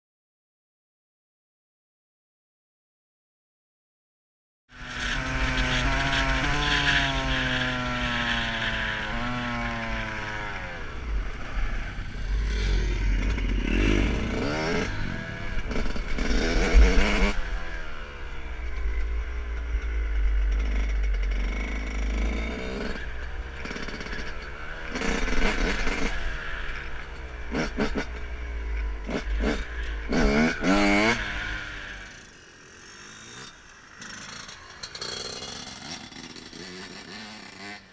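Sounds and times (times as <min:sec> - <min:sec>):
dirt bike engine revving: 0:04.7 - 0:37.9.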